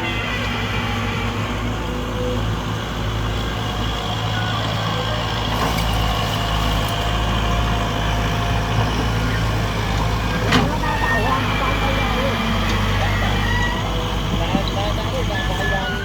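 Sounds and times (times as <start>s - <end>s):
tractor engine humming: 0.0s - 16.0s.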